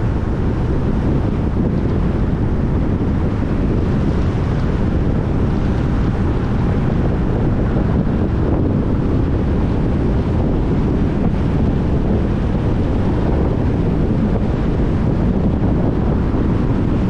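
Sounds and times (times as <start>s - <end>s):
vehicle road and wind noise: 0.0s - 17.0s.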